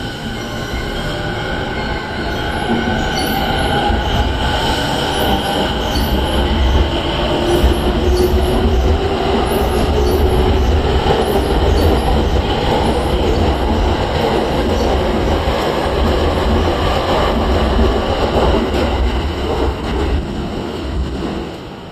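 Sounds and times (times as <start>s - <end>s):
wheel and rail rumble: 0.0s - 21.9s.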